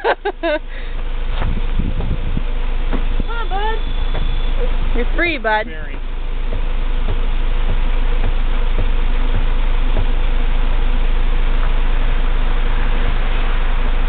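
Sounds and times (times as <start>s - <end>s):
constant hiss: 0.0s - 14.0s
machine rumble: 0.0s - 14.0s.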